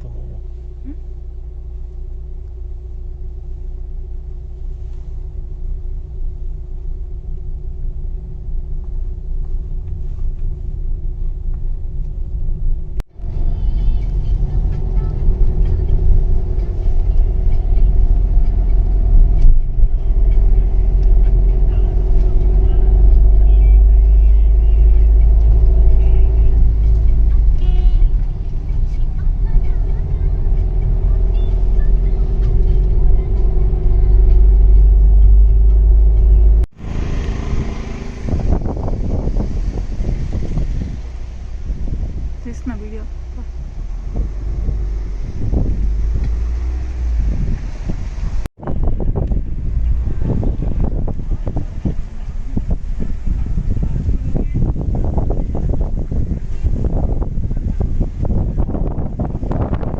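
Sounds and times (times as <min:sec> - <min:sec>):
car driving rumble from cabin: 0:00.0 - 0:59.9.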